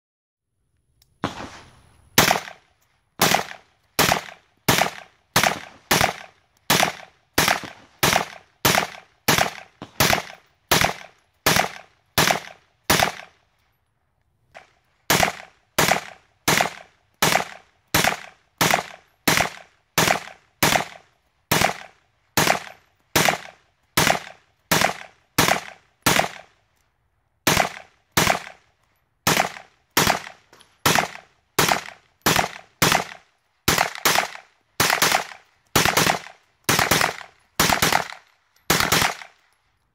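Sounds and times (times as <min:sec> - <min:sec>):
rifle gunshots: 0:01.2 - 0:02.6, 0:03.2 - 0:13.3, 0:14.6 - 0:26.5, 0:27.4 - 0:28.6, 0:29.2 - 0:39.4.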